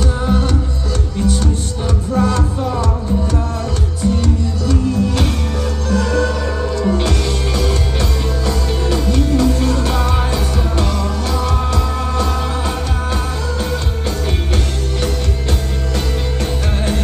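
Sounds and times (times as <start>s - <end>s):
lead vocal singing: 0.0s - 17.0s
rock band playing live: 0.0s - 17.0s.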